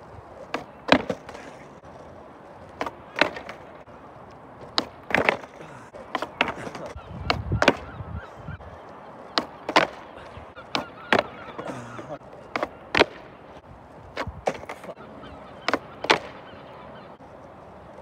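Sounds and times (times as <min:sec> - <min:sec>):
skateboard clacking on asphalt: 0:00.0 - 0:08.0, 0:08.6 - 0:15.0, 0:15.6 - 0:16.6, 0:17.2 - 0:18.0.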